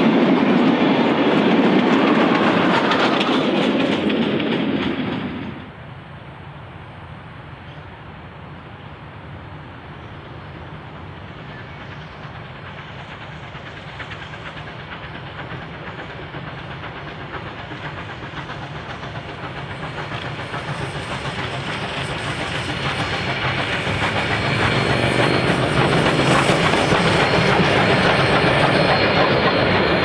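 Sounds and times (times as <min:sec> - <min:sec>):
steam locomotive exhaust beats: 0:00.0 - 0:30.0.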